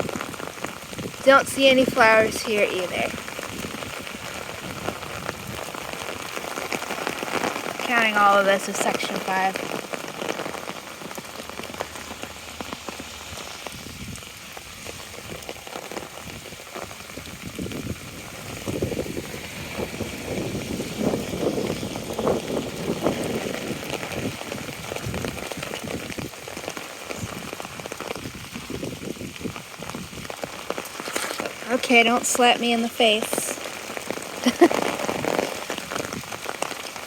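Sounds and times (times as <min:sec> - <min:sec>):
rain pattering on umbrella: 0:00.0 - 0:37.0.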